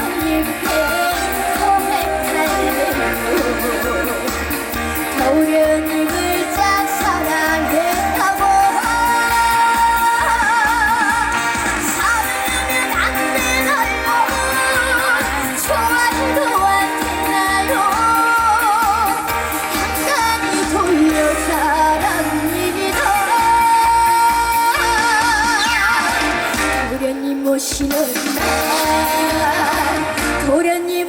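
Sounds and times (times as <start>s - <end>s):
vibrato melody over backing track: 0.0s - 31.0s.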